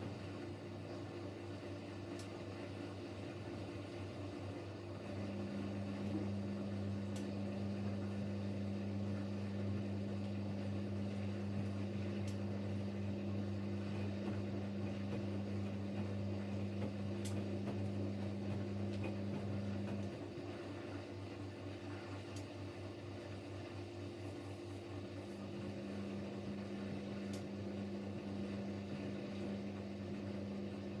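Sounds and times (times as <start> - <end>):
washing machine drain pump humming: 0.0 - 31.0.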